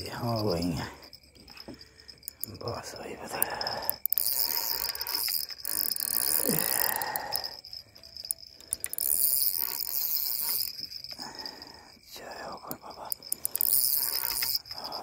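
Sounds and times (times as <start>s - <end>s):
crickets chirping: 0.0s - 15.0s
rustling and scraping of fishing reel: 0.0s - 15.0s.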